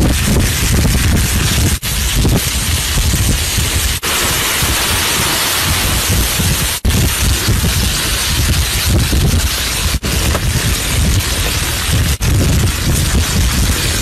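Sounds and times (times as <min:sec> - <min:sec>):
squid sizzling on hot stone: 0:00.0 - 0:14.0
wind rumbling on microphone: 0:00.0 - 0:14.0.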